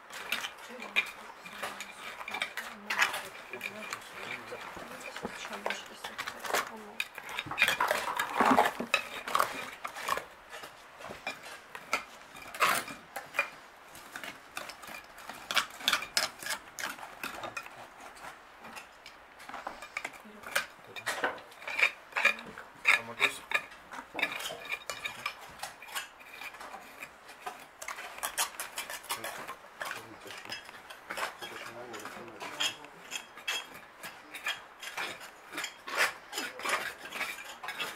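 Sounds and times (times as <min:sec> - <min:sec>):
trowels scraping stony soil: 0:00.0 - 0:37.9.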